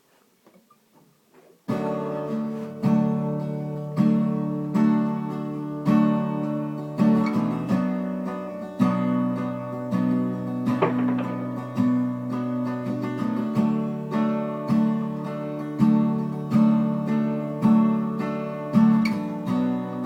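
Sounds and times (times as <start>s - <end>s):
acoustic guitar strumming: 1.7s - 20.0s.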